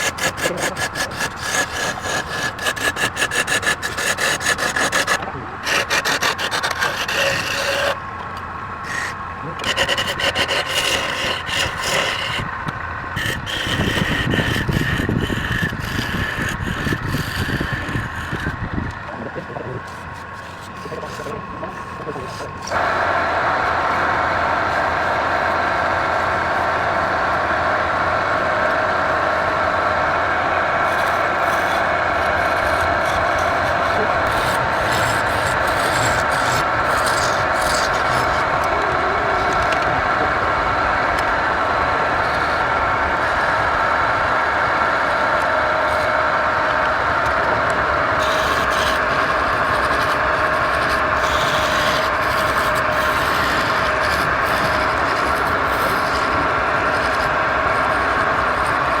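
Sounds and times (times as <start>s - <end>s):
turning tool scraping wood: 0.0s - 24.1s, 30.8s - 40.0s, 42.2s - 43.8s, 44.9s - 59.0s
wood lathe humming: 0.0s - 59.0s.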